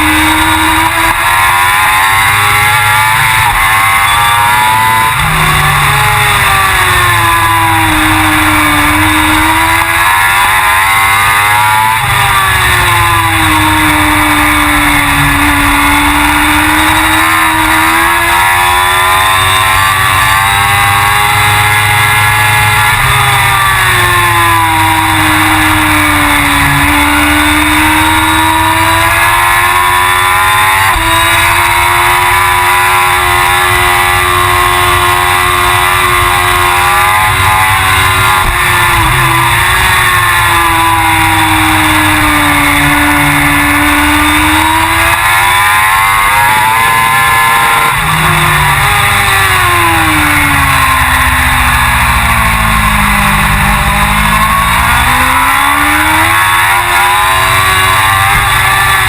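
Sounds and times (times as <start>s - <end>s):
motorcycle engine racing: 0.0s - 59.0s.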